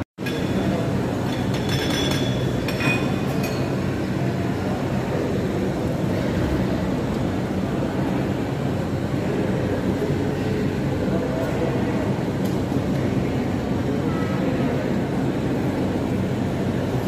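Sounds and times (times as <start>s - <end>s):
faint hum: 0.2s - 17.0s.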